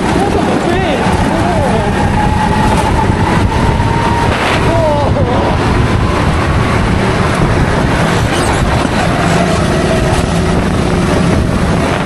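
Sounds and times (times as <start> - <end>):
kart engine running hard: 0.0 - 12.0
wind rushing over microphone: 0.0 - 12.0.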